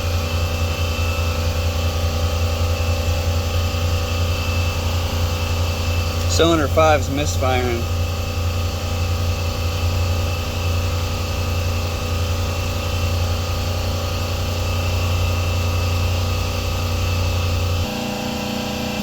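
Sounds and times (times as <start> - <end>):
misfiring engine idling: 0.0 - 18.8.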